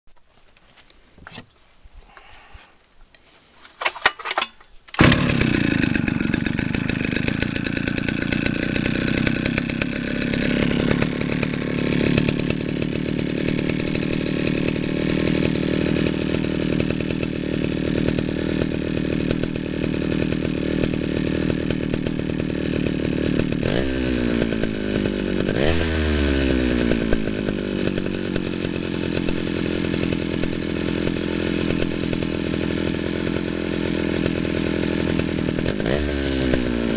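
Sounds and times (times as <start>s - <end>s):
chainsaw starting and running: 4.9s - 36.9s
chainsaw revving: 5.0s - 36.9s.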